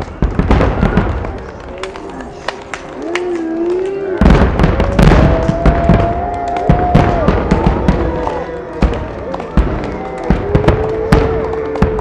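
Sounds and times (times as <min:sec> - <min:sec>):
fireworks booms and crackling bangs: 0:00.0 - 0:12.0.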